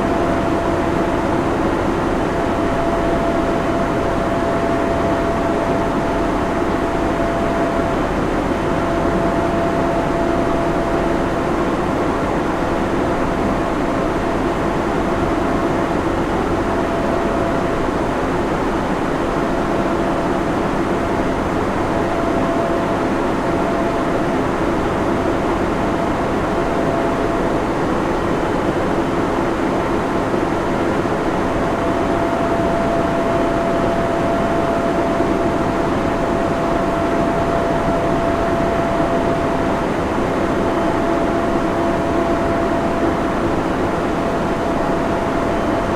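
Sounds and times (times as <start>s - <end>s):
mid-pitched hum: 0.0s - 28.1s, 29.6s - 45.9s
cooling fans whirring: 0.0s - 45.9s.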